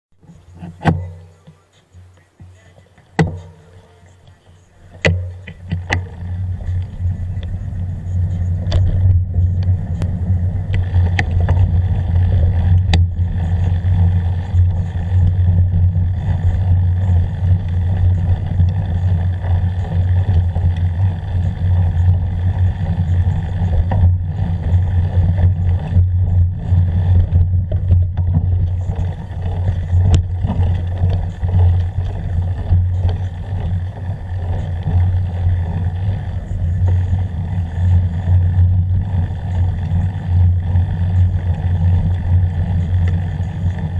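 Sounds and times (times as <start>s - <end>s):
faint ticks: 0.2s - 43.9s
steady low rumble: 0.2s - 43.9s.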